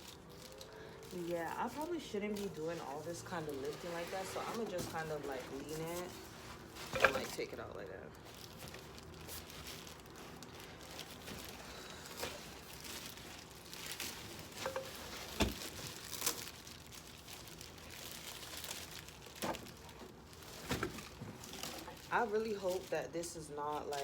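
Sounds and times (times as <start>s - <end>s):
packaging rustling and crinkling: 0.0s - 24.0s.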